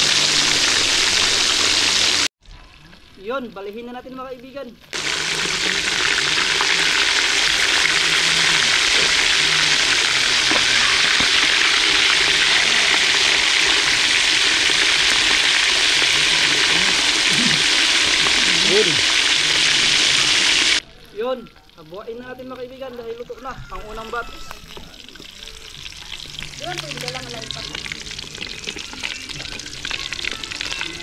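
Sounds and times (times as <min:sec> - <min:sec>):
fish deep-frying in oil: 0:00.0 - 0:04.0, 0:04.8 - 0:20.9, 0:21.5 - 0:31.0.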